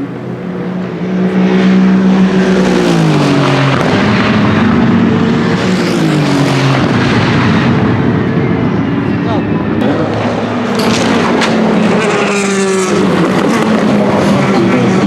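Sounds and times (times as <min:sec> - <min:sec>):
race car engine passing: 0:00.0 - 0:15.0.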